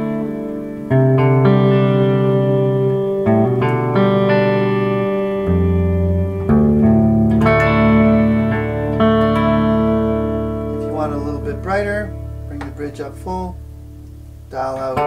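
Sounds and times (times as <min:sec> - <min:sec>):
electric guitar chords ringing: 0:00.0 - 0:15.0.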